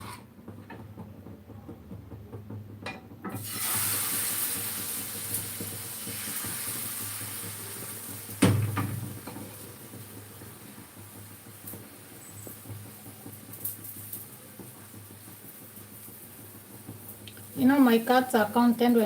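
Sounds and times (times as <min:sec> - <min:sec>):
water running from tap: 0:03.4 - 0:19.0.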